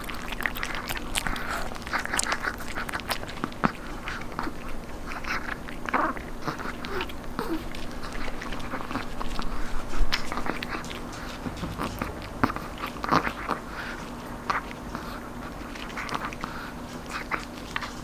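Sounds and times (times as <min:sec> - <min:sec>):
dog crunching a crispy treat: 0:00.0 - 0:18.0.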